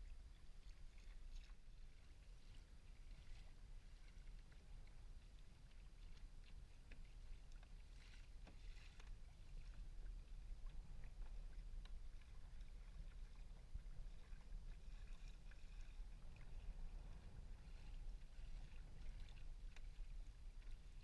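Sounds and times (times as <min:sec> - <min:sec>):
low steady rumble: 0:00.0 - 0:21.0
water splashing against kayak hull: 0:00.0 - 0:21.0.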